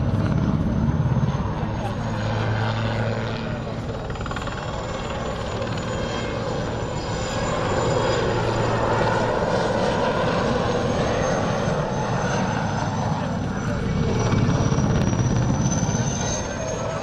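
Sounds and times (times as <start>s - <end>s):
helicopter rotors and turbines: 0.0s - 17.0s.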